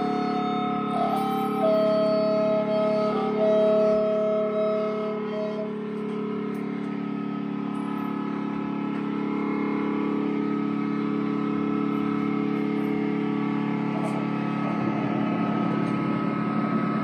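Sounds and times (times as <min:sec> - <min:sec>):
electric guitar drone: 0:00.0 - 0:17.0.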